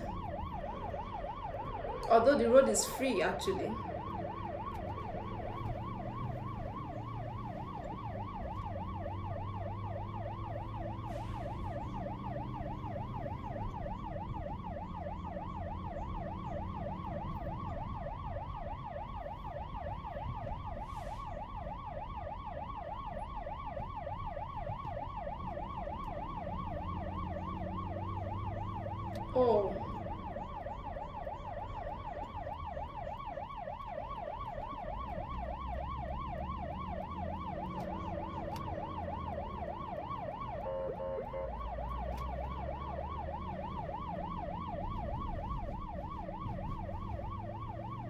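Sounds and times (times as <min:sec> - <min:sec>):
ambulance siren yelping: 0:00.0 - 0:48.0
low rumble of road traffic: 0:00.0 - 0:48.0.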